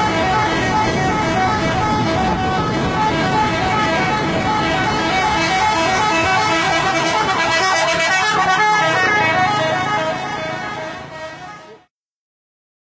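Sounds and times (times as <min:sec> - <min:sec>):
musical bus air horn tune: 0:00.0 - 0:11.9.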